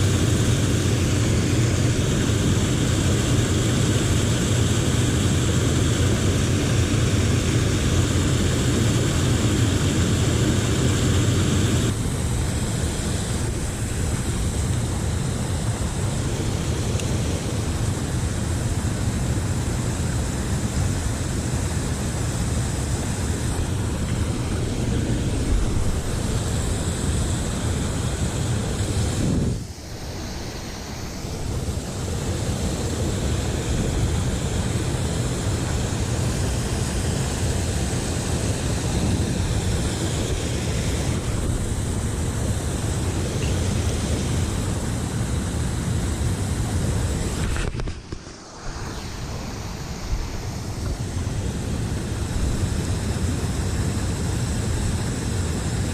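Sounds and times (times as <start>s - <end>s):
river water rushing: 0.0s - 55.9s
wind buffeting microphone: 0.0s - 55.9s.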